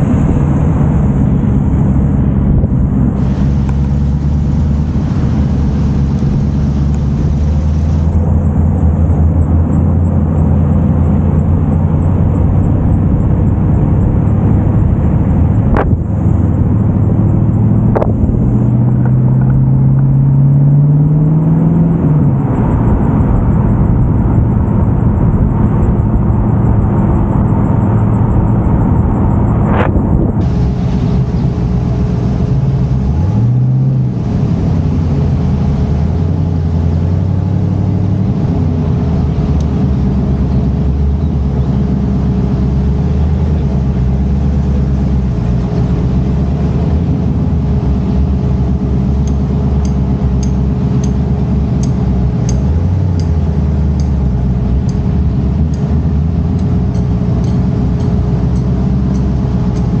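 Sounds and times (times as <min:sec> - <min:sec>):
car engine running: 0:00.0 - 1:00.0.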